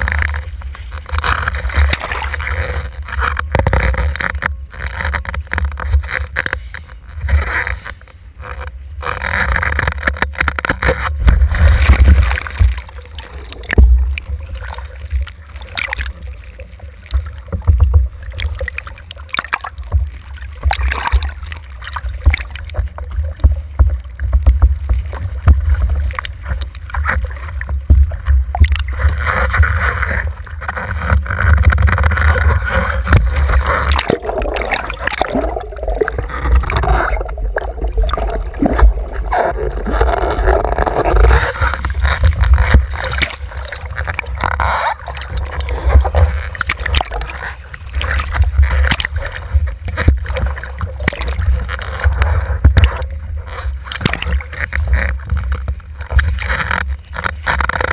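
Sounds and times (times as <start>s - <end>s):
water rushing against a board: 0.0s - 57.9s.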